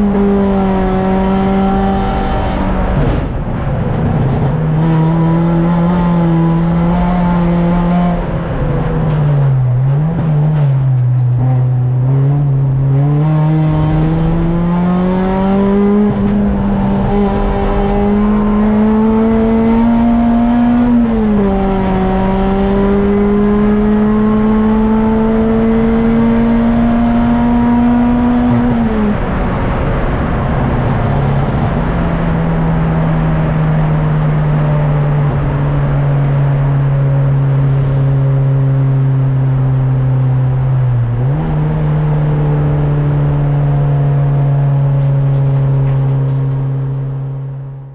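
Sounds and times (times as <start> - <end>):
race car engine revving: 0.0 - 47.9
road and wind noise: 0.0 - 47.9.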